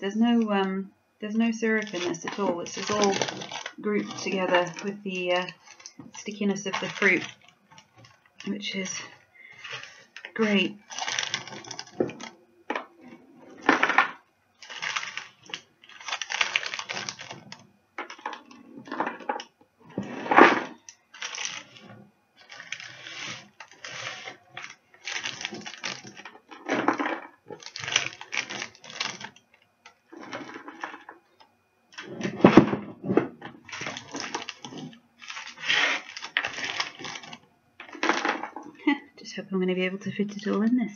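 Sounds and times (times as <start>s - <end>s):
granola crunching and rattling: 1.6s - 38.9s.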